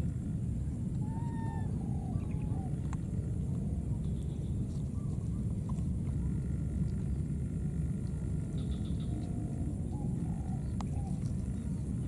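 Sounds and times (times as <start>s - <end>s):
low rumble: 0.0s - 12.0s
faint animal calls: 1.0s - 12.0s.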